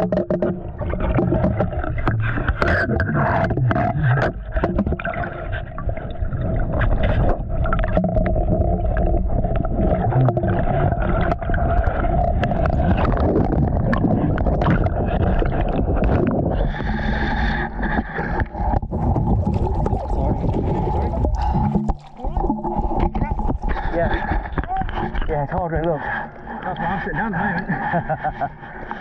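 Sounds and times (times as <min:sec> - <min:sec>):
water sloshing and splashing: 0:00.0 - 0:29.0.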